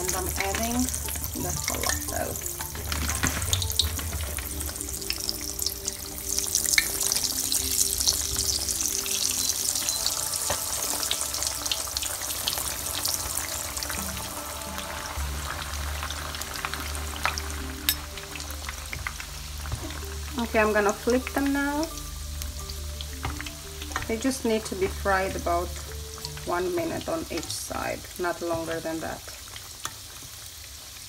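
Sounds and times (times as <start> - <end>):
food deep-frying in oil: 0.0 - 31.0.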